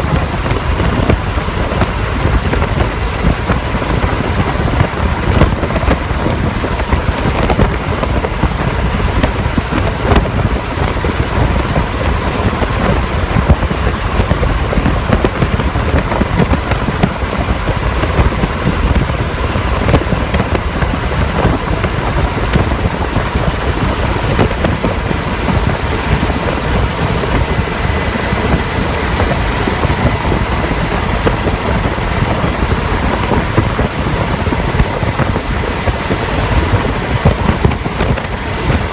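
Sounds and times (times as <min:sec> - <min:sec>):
faint steady whine: 0:00.0 - 0:38.9
helicopter rotor and engine: 0:00.0 - 0:38.9.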